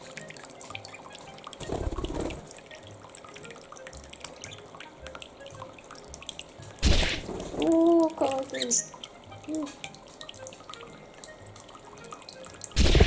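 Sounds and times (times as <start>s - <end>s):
water dripping into bowl: 0.0s - 13.0s.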